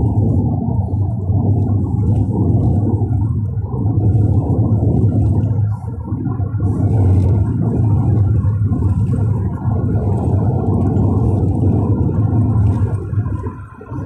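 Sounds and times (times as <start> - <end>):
road and wind noise in car: 0.0 - 14.0.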